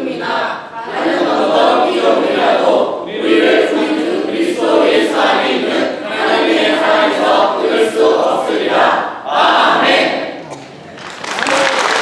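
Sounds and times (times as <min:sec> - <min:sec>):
choir chanting in unison: 0:00.0 - 0:10.4.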